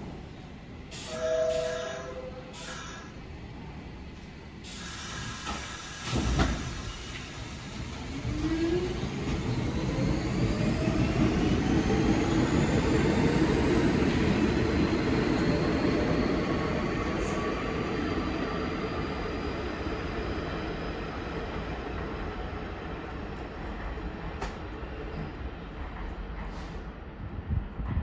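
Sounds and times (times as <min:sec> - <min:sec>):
train wheels rumbling on rails: 0:03.6 - 0:28.0.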